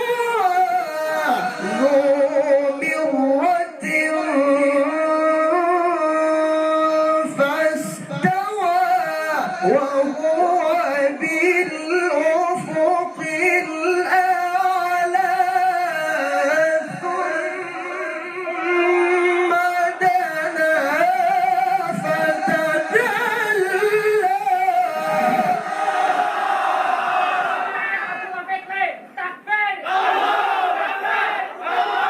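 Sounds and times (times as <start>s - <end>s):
man chanting melodically: 0.0s - 25.9s.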